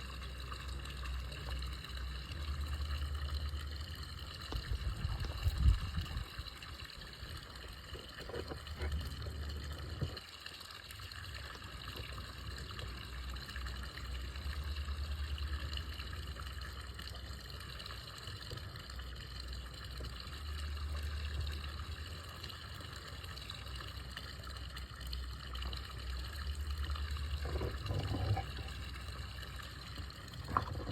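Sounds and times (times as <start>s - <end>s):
low uneven rumble: 0.0s - 10.3s, 11.2s - 30.9s
flowing water: 0.0s - 30.9s.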